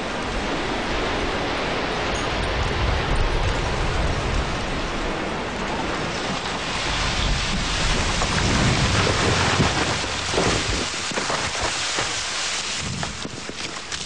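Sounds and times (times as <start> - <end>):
low rumble of collapsing building: 0.0 - 12.1
dense hiss of debris cloud: 0.0 - 13.9.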